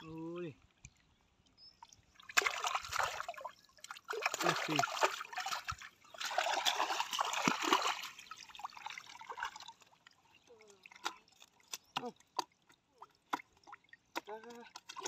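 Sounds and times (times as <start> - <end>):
water splashing and streaming: 0.6 - 15.0.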